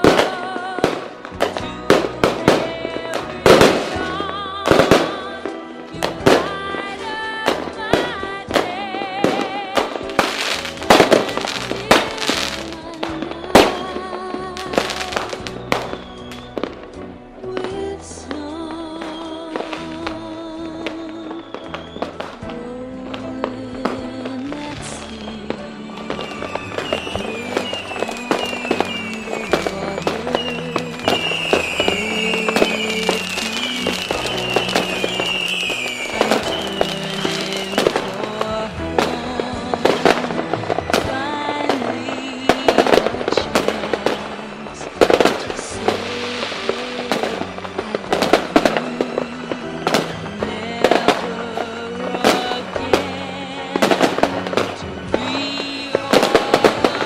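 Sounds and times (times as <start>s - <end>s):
falling firework whistles: 0.0s - 17.1s, 20.9s - 22.5s, 24.0s - 57.0s
background music: 0.0s - 57.0s
fireworks bangs and crackling: 0.0s - 57.0s.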